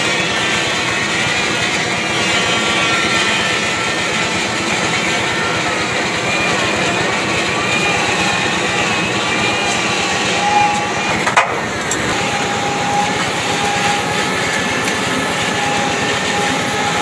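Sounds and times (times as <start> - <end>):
wood lathe running with high whine: 0.0 - 17.0.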